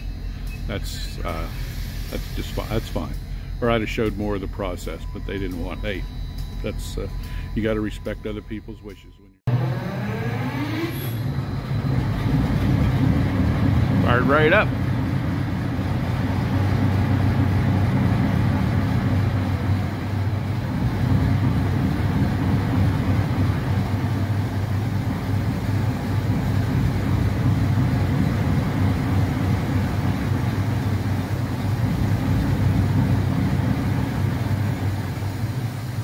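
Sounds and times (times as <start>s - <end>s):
diesel locomotive engine idling: 0.0s - 9.6s, 11.2s - 36.0s.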